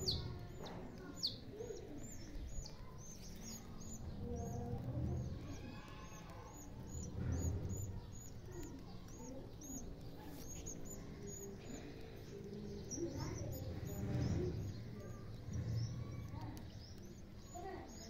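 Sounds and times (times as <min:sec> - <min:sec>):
birds chirping: 0:00.0 - 0:18.0
low rumbles: 0:02.0 - 0:17.5.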